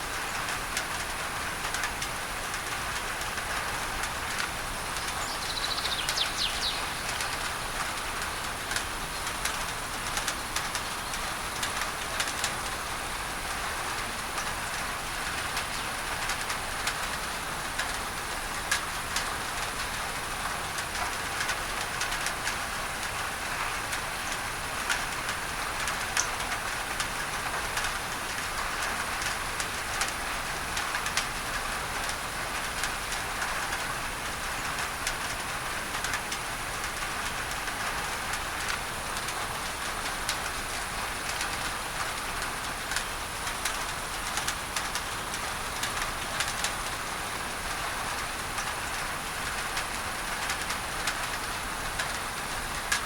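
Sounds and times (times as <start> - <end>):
rain on a tin roof: 0.0 - 53.0.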